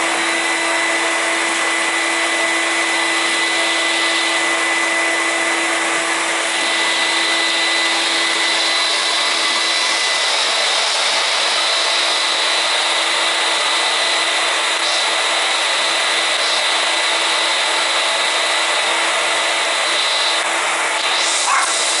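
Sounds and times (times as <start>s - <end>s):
electric appliance running: 0.0s - 22.0s.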